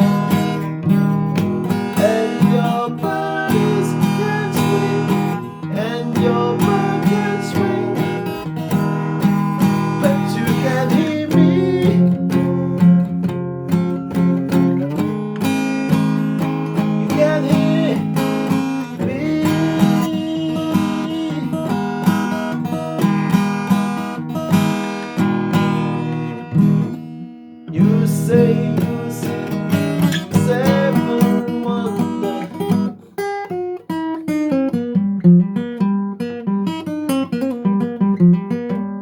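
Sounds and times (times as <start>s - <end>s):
acoustic guitar music: 0.0s - 39.0s.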